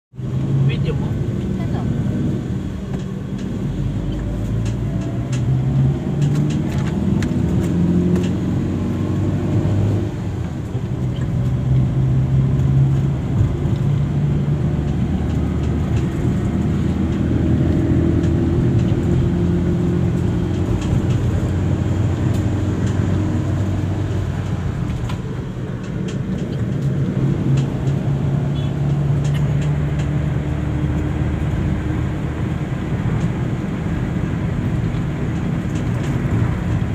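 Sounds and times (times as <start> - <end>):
road noise: 0.1 - 36.9
vehicle engine running: 0.2 - 36.9.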